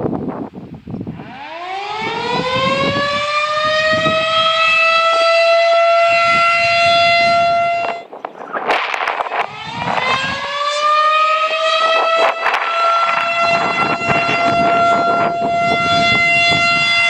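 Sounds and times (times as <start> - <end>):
warning siren winding up: 1.2 - 17.0.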